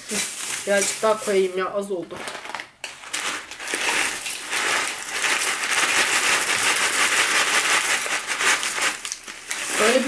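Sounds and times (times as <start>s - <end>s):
corn flakes pouring: 0.0s - 10.0s
plastic bag crinkling: 0.0s - 10.0s.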